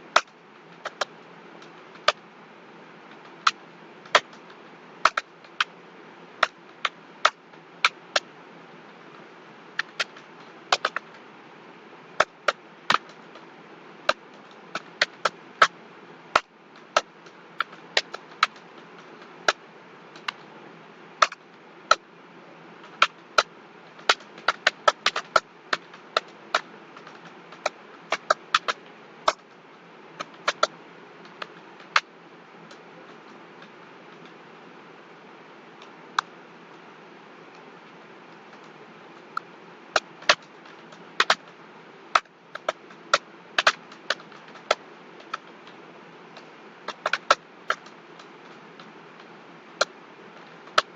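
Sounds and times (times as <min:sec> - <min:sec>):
faint hiss: 0:00.0 - 0:50.9.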